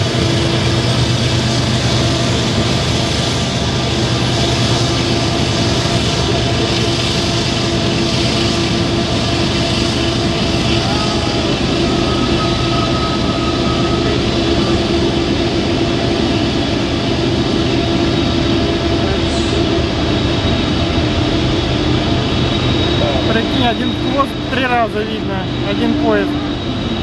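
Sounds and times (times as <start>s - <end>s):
droning hum: 0.0s - 27.0s
freight train rumbling: 0.0s - 27.0s.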